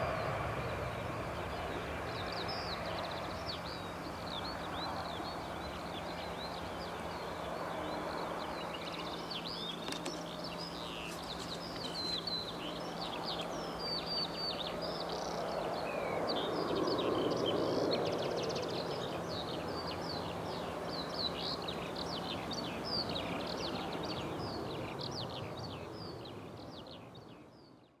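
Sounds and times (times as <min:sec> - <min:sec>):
distant jet engine rumble: 0:00.0 - 0:27.0
small birds chirping: 0:00.0 - 0:28.0.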